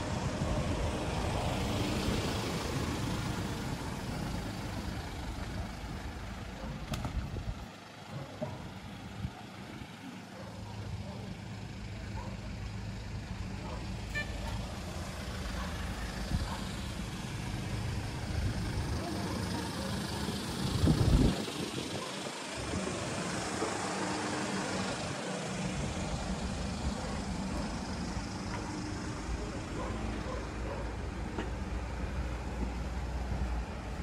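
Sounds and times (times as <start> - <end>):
vehicle engines passing: 0.0 - 34.0.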